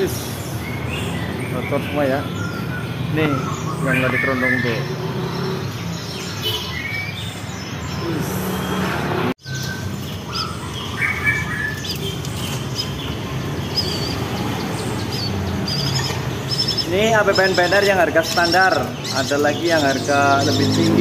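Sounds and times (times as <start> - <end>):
songbirds chirping and whistling: 0.0 - 21.0.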